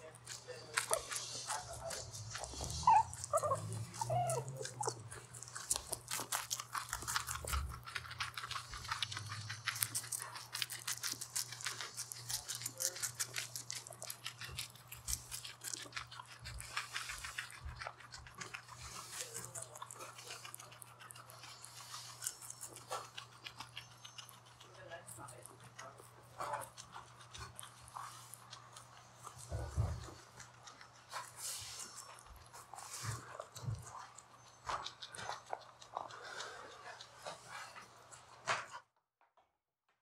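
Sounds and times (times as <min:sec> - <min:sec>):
guinea pigs chewing cucumber: 0:00.0 - 0:38.8.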